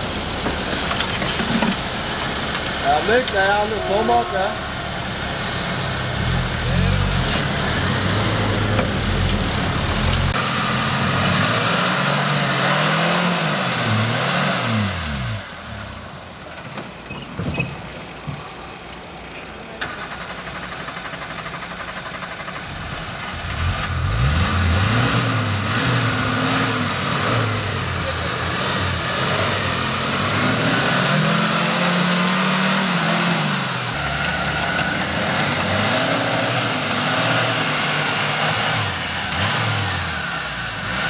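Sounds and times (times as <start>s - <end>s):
off-road vehicle engine revving: 0.0s - 16.3s, 19.8s - 41.0s.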